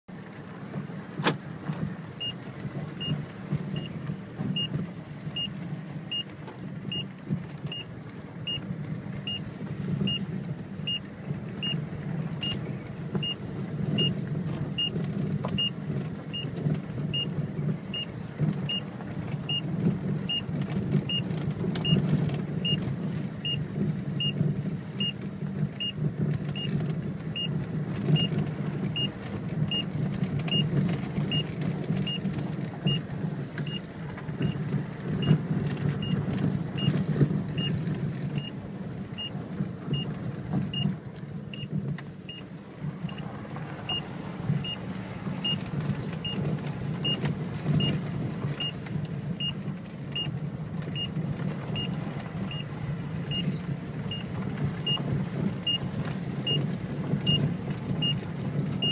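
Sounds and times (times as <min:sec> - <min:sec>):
car engine running: 0:00.1 - 0:58.9.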